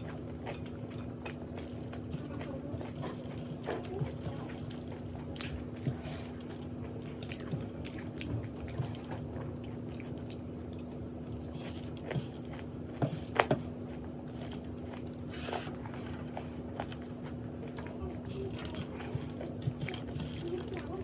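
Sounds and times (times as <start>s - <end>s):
chewing crunchy food: 0.0s - 21.0s
steady low hum: 0.0s - 21.0s.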